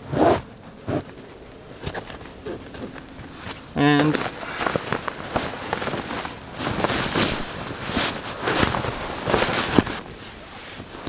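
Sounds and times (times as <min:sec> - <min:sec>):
nylon sack rustling: 0:00.0 - 0:11.0.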